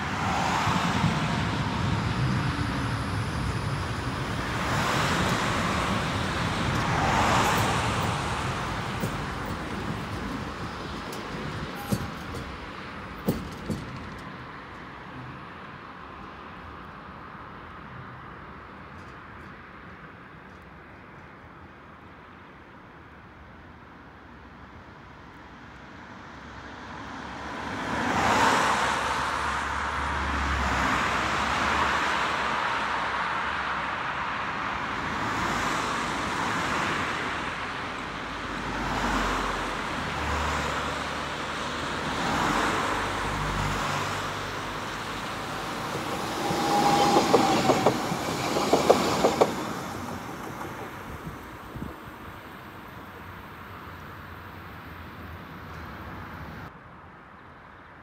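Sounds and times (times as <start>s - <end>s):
passing road vehicles: 0.0s - 58.0s.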